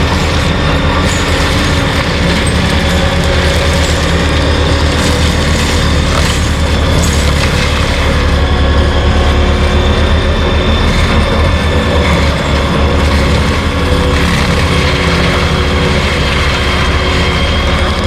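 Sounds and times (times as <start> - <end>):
rough mechanical clatter: 0.0 - 18.0
stump grinder engine running: 0.0 - 18.0.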